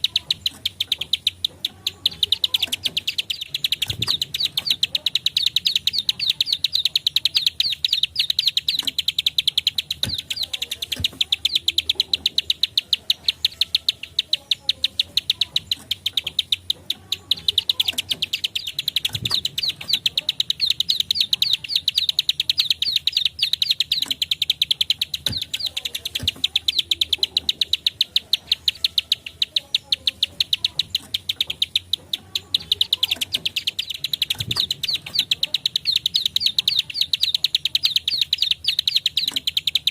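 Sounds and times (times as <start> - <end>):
bird fast dry clicking song: 0.0 - 39.9.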